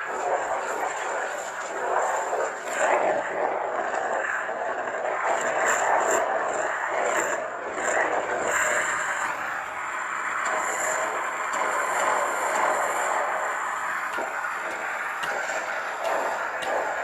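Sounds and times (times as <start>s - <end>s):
lightsaber hum with high whine: 0.0s - 17.0s.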